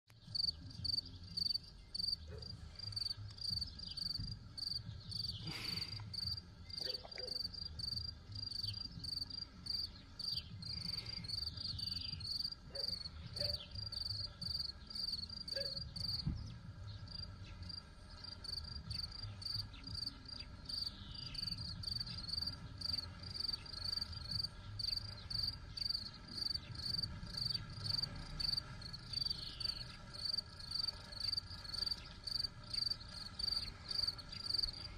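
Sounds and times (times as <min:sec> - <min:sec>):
cricket chirping: 0:00.3 - 0:16.3, 0:17.1 - 0:34.9.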